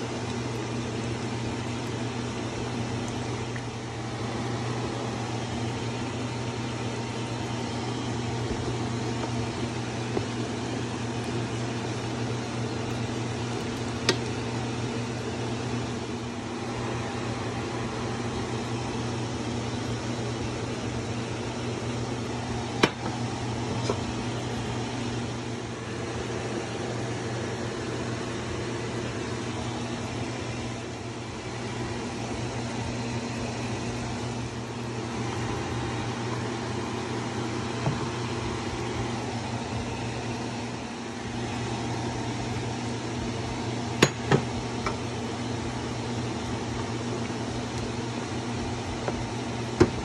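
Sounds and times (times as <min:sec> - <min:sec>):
kitchen hum and hiss: 0:00.0 - 0:50.0.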